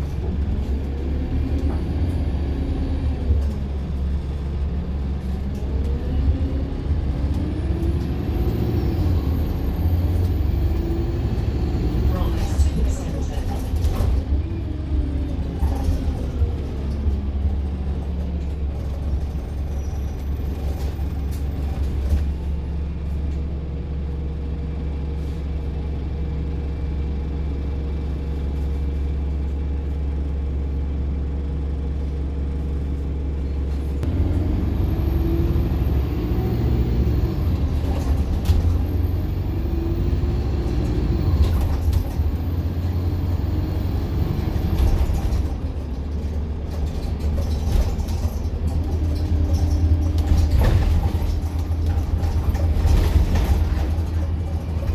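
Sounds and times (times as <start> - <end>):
bus engine: 0.0 - 54.9.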